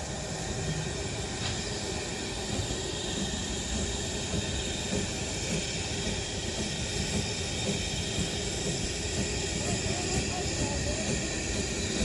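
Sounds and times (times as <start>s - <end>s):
hiss: 0.0s - 12.0s
train rumbling: 0.0s - 12.0s.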